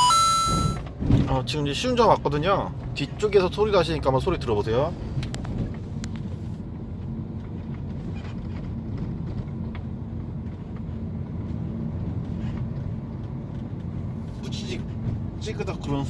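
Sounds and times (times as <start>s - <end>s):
road and drivetrain rumble: 0.0s - 16.0s
suspension creaks and crackles: 0.4s - 16.0s.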